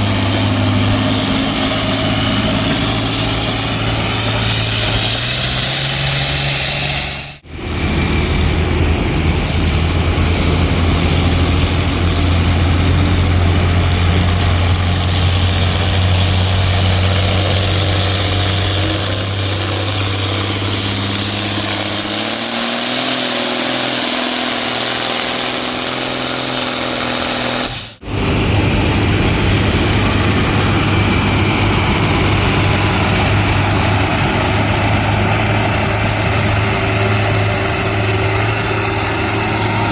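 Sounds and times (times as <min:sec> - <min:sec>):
high whine: 0:00.0 - 0:39.9
tractor engine running hard: 0:00.0 - 0:39.9.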